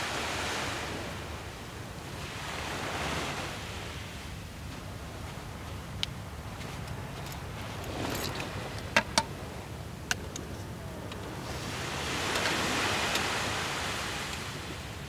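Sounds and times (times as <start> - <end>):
surf washing up the beach: 0.0 - 15.0.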